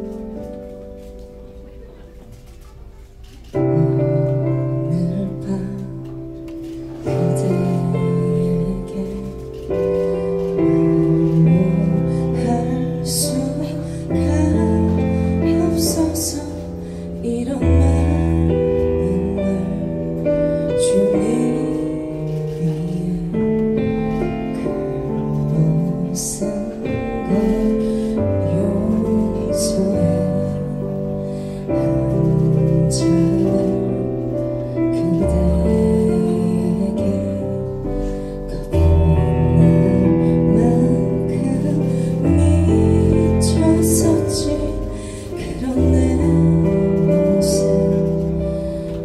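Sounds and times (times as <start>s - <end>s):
instrumental accompaniment: 0.0s - 49.0s
woman singing into a microphone: 3.5s - 6.2s, 7.0s - 48.8s.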